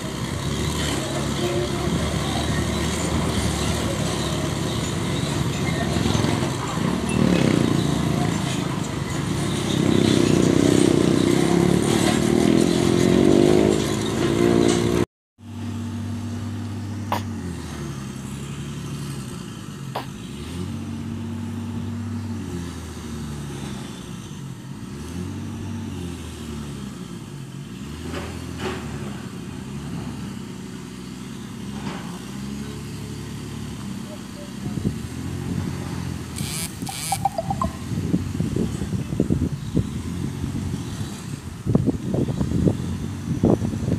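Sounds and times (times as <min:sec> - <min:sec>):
diesel excavator engine labouring: 0:00.0 - 0:43.9.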